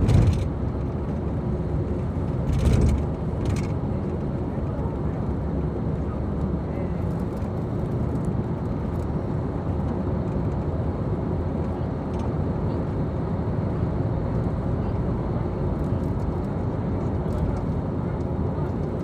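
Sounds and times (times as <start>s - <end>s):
car road noise from inside: 0.0s - 19.0s.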